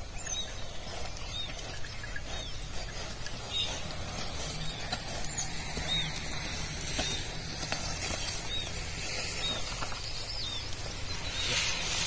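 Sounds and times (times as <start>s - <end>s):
bird calling: 0.0s - 12.0s
low outdoor rumble: 0.0s - 12.0s.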